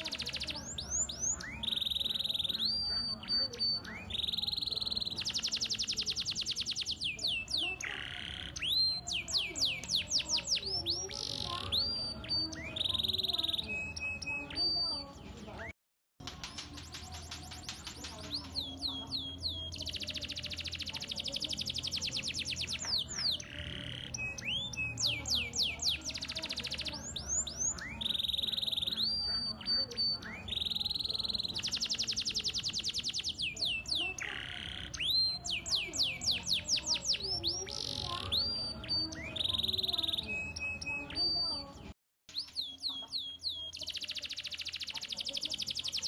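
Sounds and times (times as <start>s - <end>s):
canary singing: 0.0s - 46.0s.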